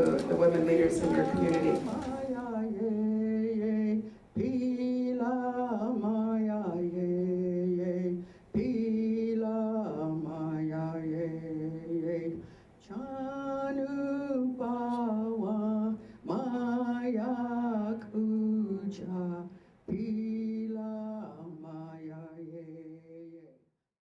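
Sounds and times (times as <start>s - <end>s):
person singing unaccompanied: 0.0s - 23.4s.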